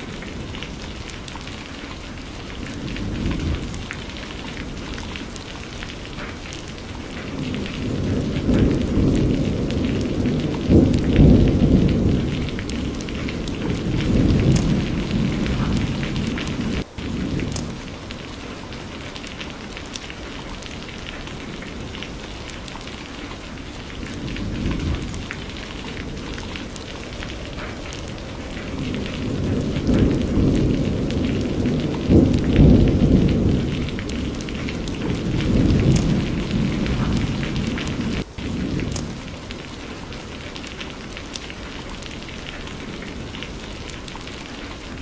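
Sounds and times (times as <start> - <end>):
heavy rain: 0.0 - 45.0
rolling thunder: 0.0 - 45.0.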